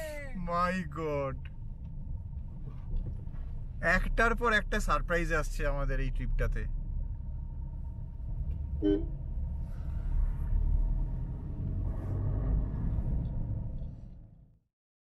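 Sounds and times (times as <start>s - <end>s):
car engine and road noise: 0.0s - 14.6s.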